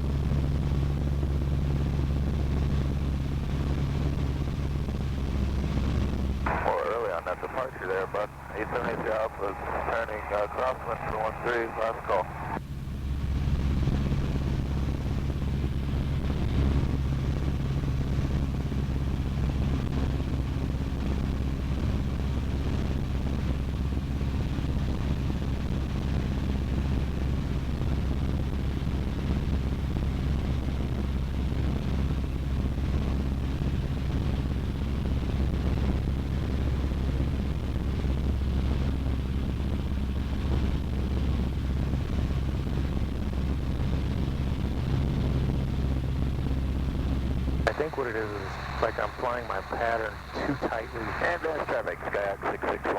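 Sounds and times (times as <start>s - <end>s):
airplane engine and propeller droning: 0.0s - 52.9s.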